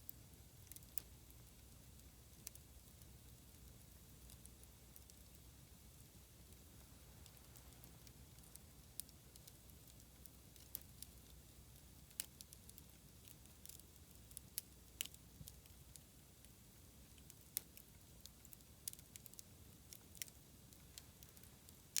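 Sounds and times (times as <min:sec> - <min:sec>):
campfire crackling: 0:00.1 - 0:22.0.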